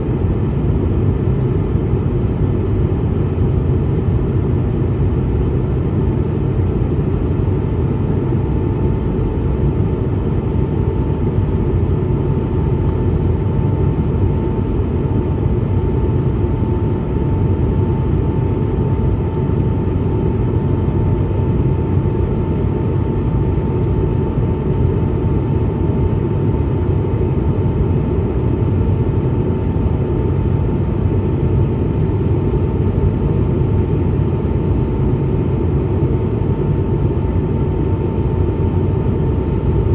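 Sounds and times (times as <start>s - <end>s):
jet engine cabin roar: 0.0s - 39.9s.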